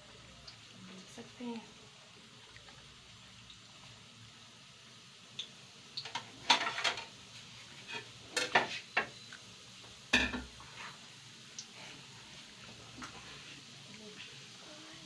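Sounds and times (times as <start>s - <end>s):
pastries deep-frying in oil: 0.0s - 15.0s.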